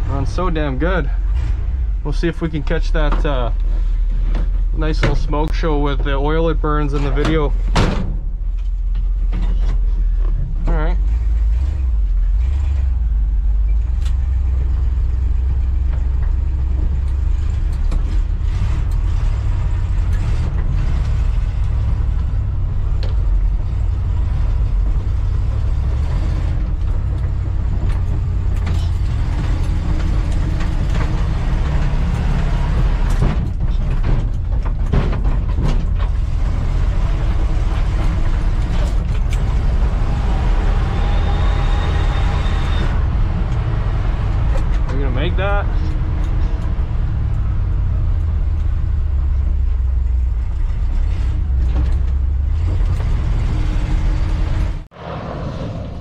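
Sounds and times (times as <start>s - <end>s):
knocks and rattles: 0.0s - 41.0s, 42.8s - 54.9s
truck engine rumbling: 0.0s - 56.0s.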